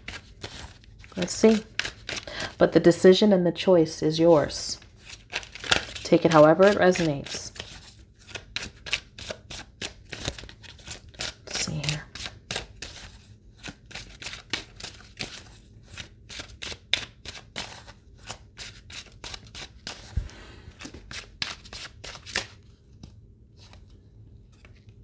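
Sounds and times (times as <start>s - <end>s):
cards being shuffled: 0.0s - 2.3s, 4.8s - 24.0s.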